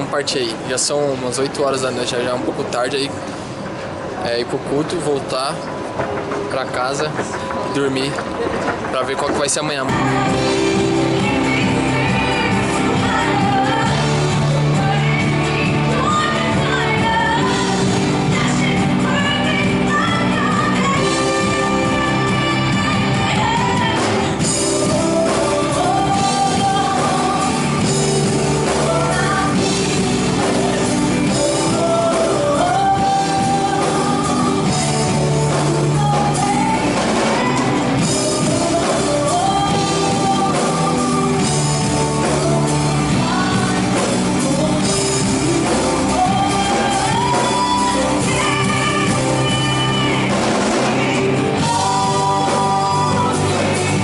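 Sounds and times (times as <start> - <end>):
rock band music: 9.4 - 54.0
person singing: 9.9 - 54.0.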